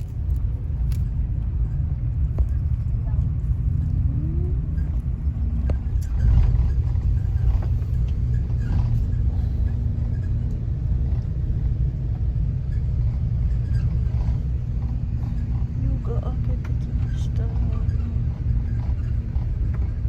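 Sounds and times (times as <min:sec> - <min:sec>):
bus engine rumble: 0:00.0 - 0:20.0
constant hum: 0:00.0 - 0:20.0.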